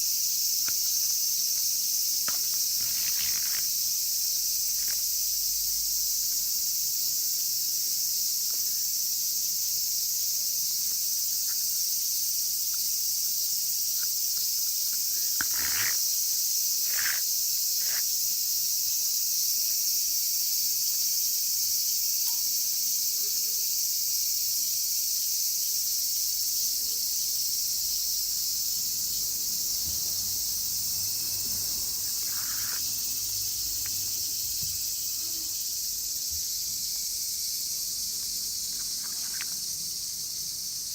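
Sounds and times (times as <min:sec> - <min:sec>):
cicadas singing: 0:00.0 - 0:40.9.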